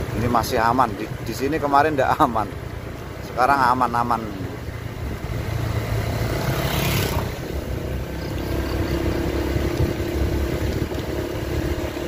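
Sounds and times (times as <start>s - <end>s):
vehicle running: 0.0s - 12.0s.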